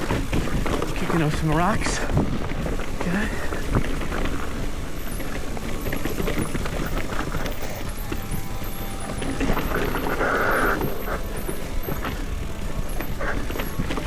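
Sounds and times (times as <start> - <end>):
bike clattering ticks: 0.0 - 14.0
tyres crunching over rocks: 0.0 - 14.0.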